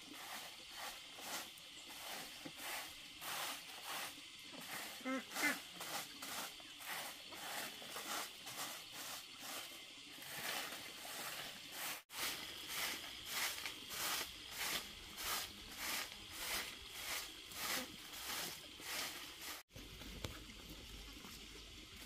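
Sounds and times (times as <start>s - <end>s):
broom sweeping dirt path: 0.0s - 19.7s.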